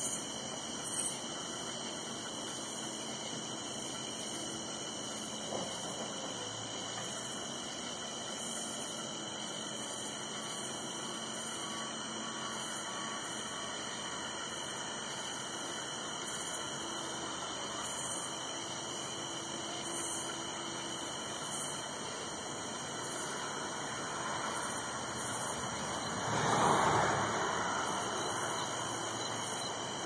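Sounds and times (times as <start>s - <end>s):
outdoor hiss: 0.0s - 30.0s.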